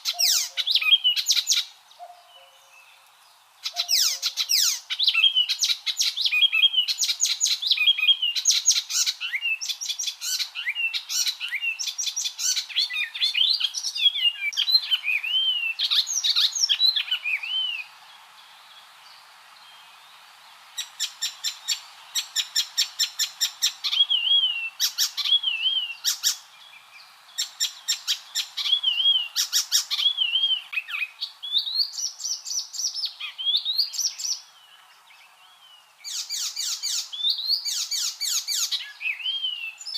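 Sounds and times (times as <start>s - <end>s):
warbler singing: 0.0s - 17.9s, 20.8s - 39.9s.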